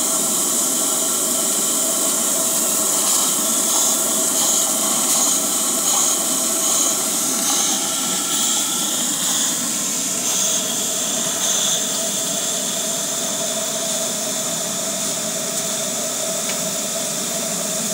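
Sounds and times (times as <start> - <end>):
steam engine hissing: 0.0 - 17.9.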